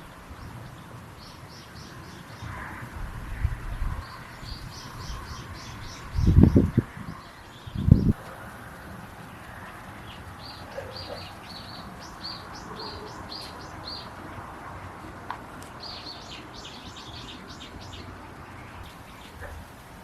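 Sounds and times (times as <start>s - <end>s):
small songbird chirping: 0.0s - 20.0s.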